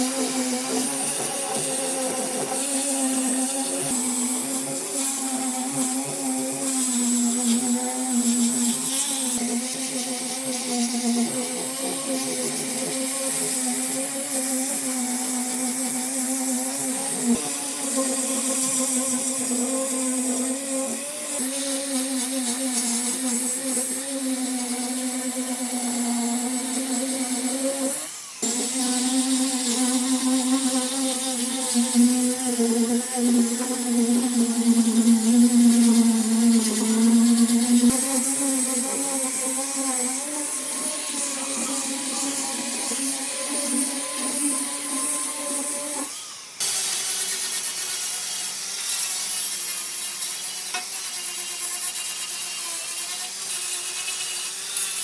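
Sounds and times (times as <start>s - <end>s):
power tool motor running: 0.0s - 55.0s.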